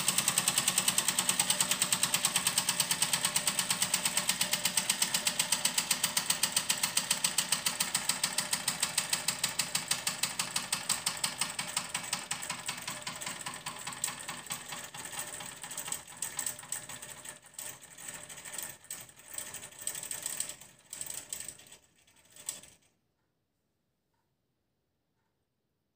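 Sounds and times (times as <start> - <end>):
toy steam engine beating: 0.0 - 22.8.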